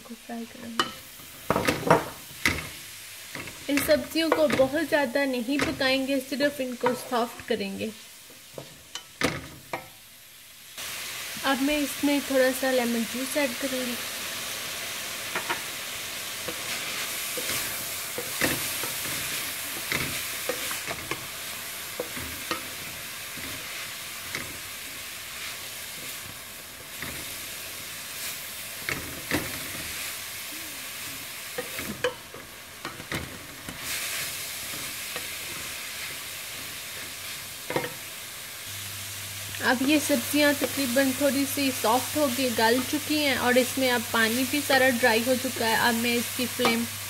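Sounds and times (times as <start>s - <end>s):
vegetables sizzling in a pan: 0.0s - 47.0s.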